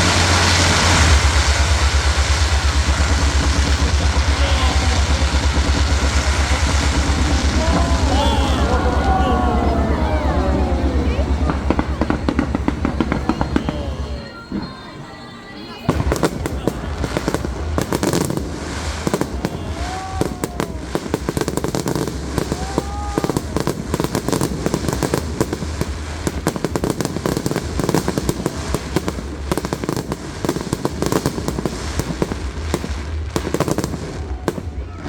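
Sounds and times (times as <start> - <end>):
low rumble: 0.0 - 14.3, 15.9 - 30.4
fireworks crackling and popping: 0.0 - 15.0, 15.8 - 35.0.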